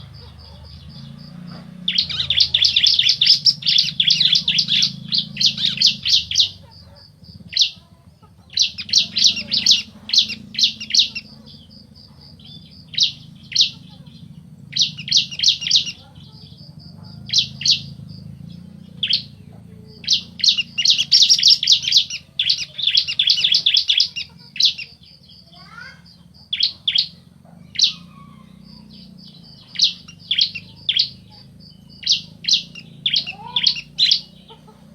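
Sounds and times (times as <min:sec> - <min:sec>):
birds calling buzzy trills: 0:00.0 - 0:34.9
faint low hum: 0:00.0 - 0:34.9.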